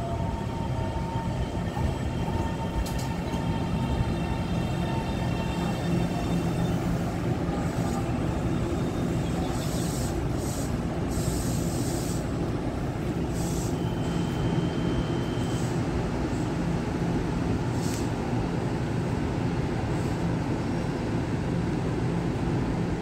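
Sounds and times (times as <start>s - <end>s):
train rumbling with hum: 0.0s - 23.0s.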